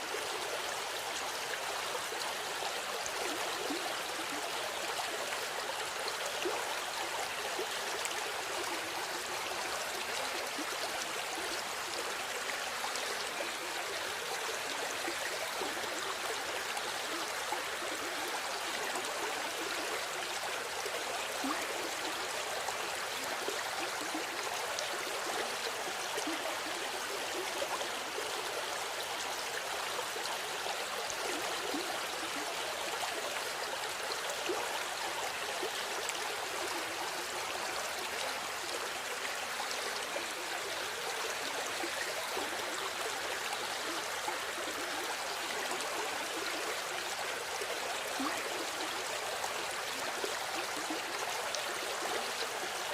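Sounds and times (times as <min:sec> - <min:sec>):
river water babbling over stones: 0:00.0 - 0:52.9.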